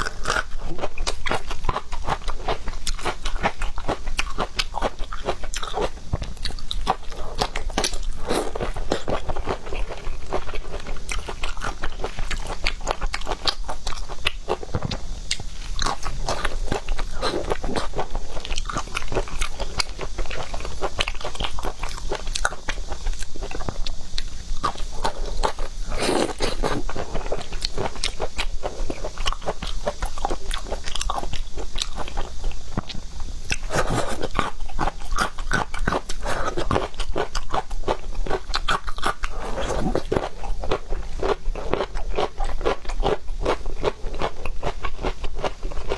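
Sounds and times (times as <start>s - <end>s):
person chewing seafood: 0.0s - 45.9s.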